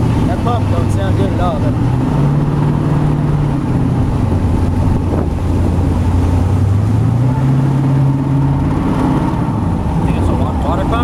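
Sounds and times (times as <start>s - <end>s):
boat engine running: 0.0s - 11.0s
wind on microphone: 0.0s - 11.0s.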